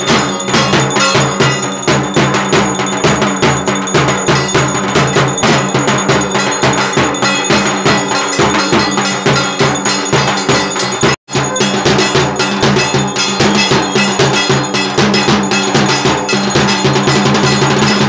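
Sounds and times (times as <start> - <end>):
metal bells ringing: 0.0 - 18.0
rhythmic percussion: 0.0 - 18.0.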